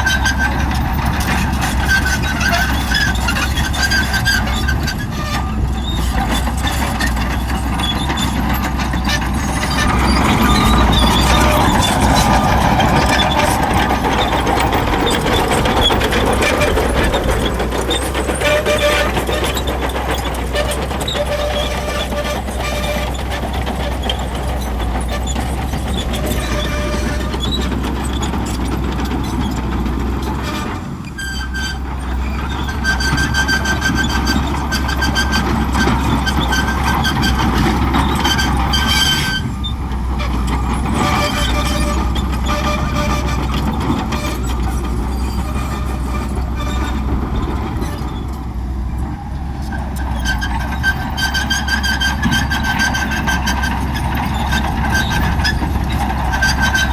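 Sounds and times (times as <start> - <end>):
bulldozer diesel engine running: 0.0 - 56.9
metallic squeals from tracks: 0.0 - 56.9.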